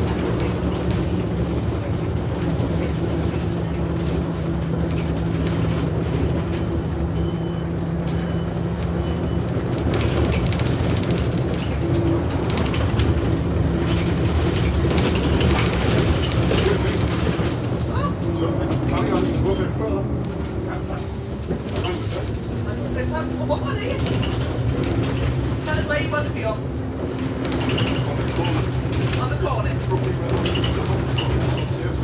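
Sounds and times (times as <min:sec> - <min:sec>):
bus engine droning: 0:00.0 - 0:32.0
rattles inside bus: 0:00.0 - 0:32.0.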